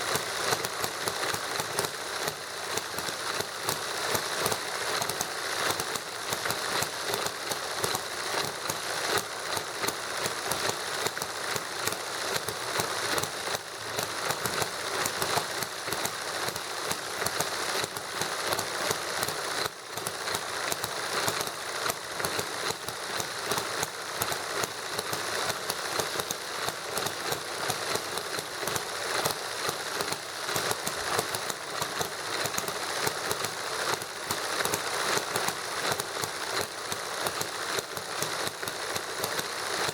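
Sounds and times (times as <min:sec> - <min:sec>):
small engine clattering and popping: 0:00.0 - 0:39.9.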